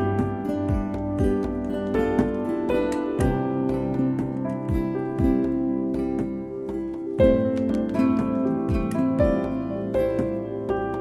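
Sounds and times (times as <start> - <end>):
harp-like plucked string music: 0.0 - 11.0.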